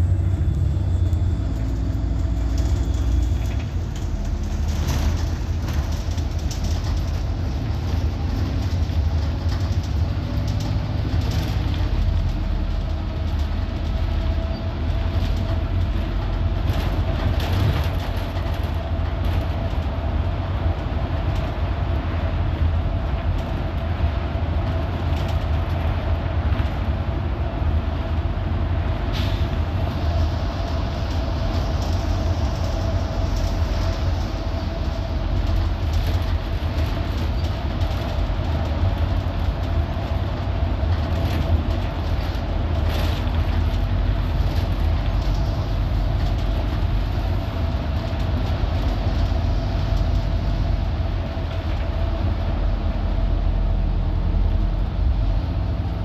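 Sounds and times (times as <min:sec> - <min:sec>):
bus engine and tyre rumble: 0:00.0 - 0:56.0
rattles and knocks of bus fittings: 0:01.7 - 0:27.1, 0:28.8 - 0:52.3.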